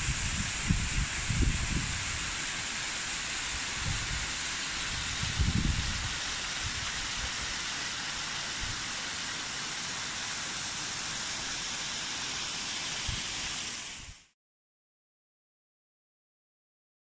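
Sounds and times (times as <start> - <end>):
fast-flowing water rushing: 0.0 - 14.2.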